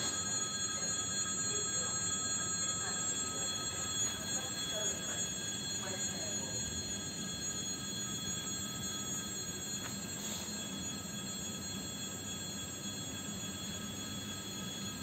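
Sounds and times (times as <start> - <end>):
high-pitched whining tones: 0.0 - 15.0
train electrical hum: 0.0 - 15.0.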